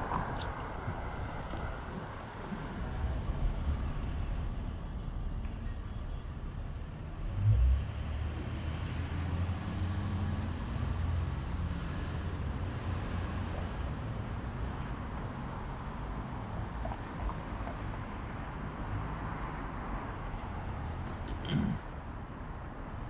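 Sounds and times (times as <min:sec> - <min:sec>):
street traffic rumble: 0:00.0 - 0:23.0
vehicle engine drone: 0:00.0 - 0:23.0.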